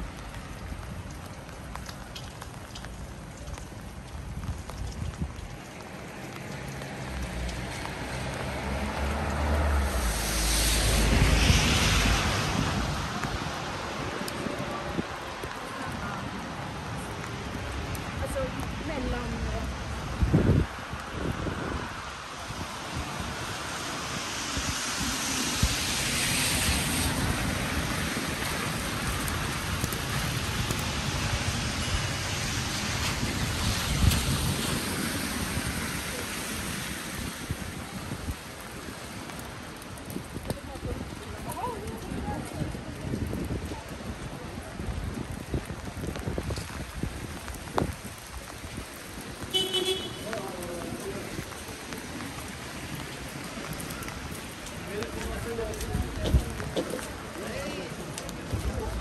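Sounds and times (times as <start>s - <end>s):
wind buffeting microphone: 0.0s - 6.2s, 9.8s - 59.0s
rain pattering on street: 0.0s - 59.0s
rushing noise with low rumble: 0.0s - 59.0s.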